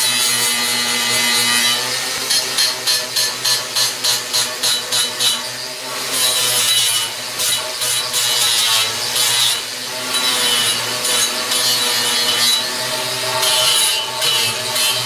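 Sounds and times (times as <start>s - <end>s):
electric grinder on metal: 0.0s - 15.0s.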